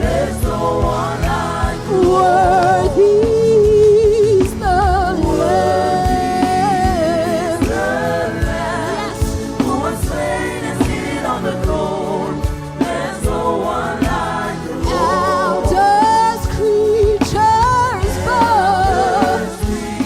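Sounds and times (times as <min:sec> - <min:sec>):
band with drums: 0:00.0 - 0:20.0
person singing with vibrato: 0:00.0 - 0:20.0.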